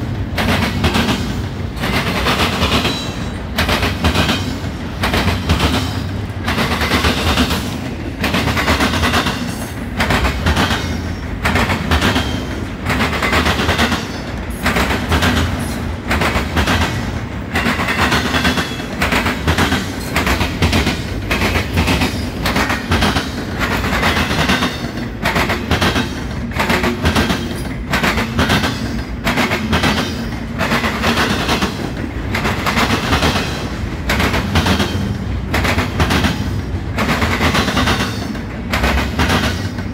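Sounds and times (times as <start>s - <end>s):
low train rumble: 0.0s - 39.9s
train wheels clattering over rails: 0.0s - 39.9s.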